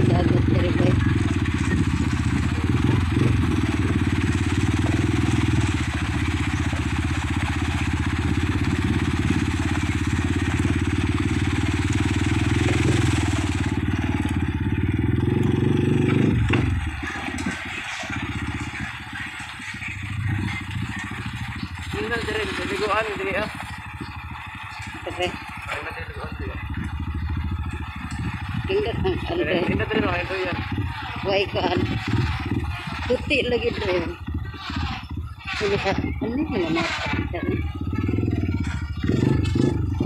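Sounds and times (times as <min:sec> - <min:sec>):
motorcycle engine droning: 0:00.0 - 0:40.0.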